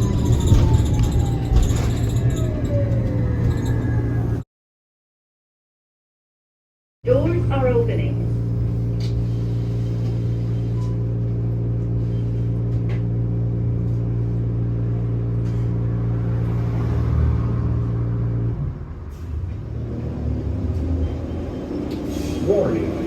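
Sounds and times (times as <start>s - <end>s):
trolleybus equipment humming: 0.0s - 4.4s, 7.0s - 23.0s.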